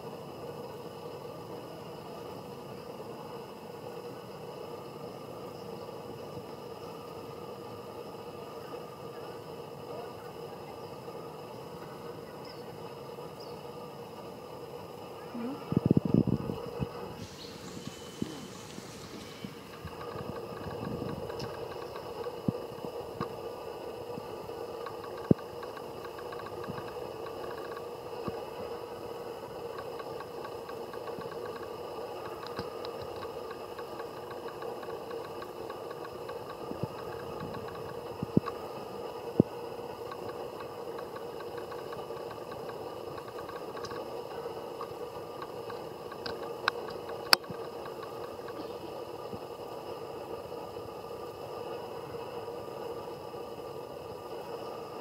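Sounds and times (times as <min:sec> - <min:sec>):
background hum and hiss: 0:00.0 - 0:55.0.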